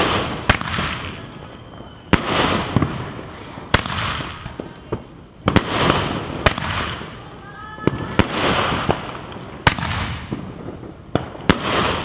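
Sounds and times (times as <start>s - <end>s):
crackling hiss: 0.0s - 12.0s
fireworks bangs: 0.0s - 12.0s.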